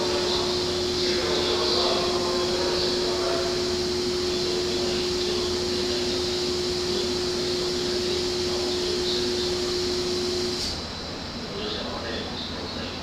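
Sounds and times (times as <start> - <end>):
train car equipment humming: 0.0 - 13.0.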